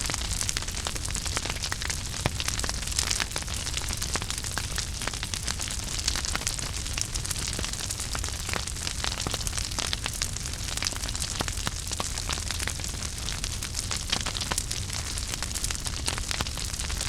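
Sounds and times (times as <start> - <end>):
fire hissing and rumbling: 0.0 - 17.0
wood fire crackling and popping: 0.0 - 17.0.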